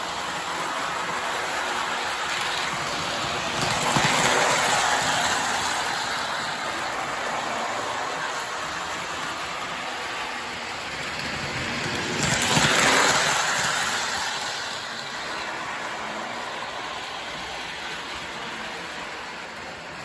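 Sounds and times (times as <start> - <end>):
model train wheels rattling: 0.0 - 20.0.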